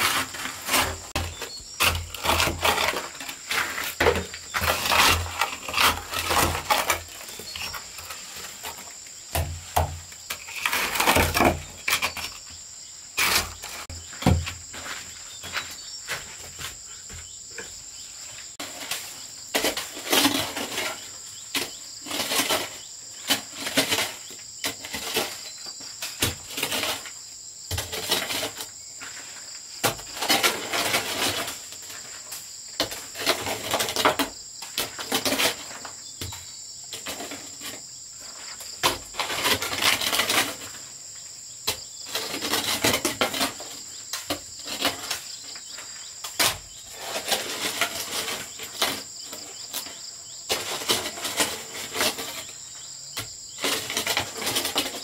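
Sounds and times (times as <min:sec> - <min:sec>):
shovel scraping dirt and rubble: 0:00.0 - 0:12.6, 0:13.2 - 0:55.0
insects chirring: 0:00.0 - 0:55.0.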